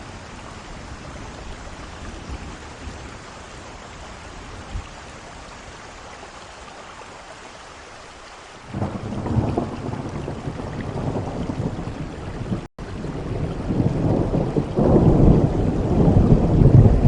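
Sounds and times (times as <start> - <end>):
thunderclap rumbling and crackling: 0.0 - 5.4, 8.7 - 17.0
heavy rain: 0.0 - 17.0.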